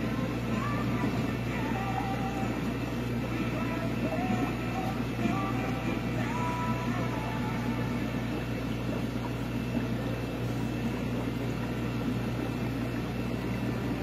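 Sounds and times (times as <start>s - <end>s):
aquarium pumps humming: 0.0s - 14.0s
running water and air: 0.0s - 14.0s.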